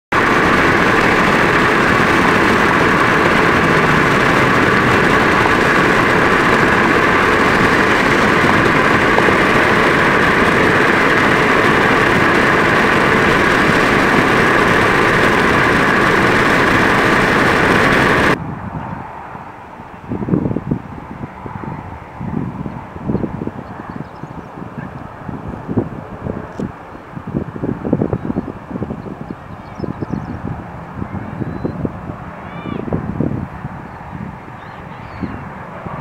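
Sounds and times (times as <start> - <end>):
car road noise at highway speed: 0.1 - 36.0.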